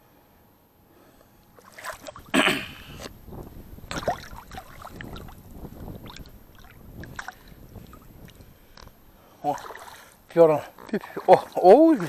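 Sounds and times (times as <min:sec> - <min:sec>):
rustling through wet vegetation: 0:01.4 - 0:12.0.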